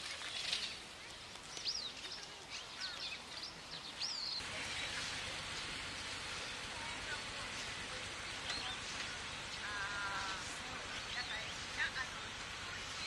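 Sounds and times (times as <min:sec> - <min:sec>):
small birds chirping: 0:00.0 - 0:13.0
steady outdoor hiss: 0:00.0 - 0:13.0.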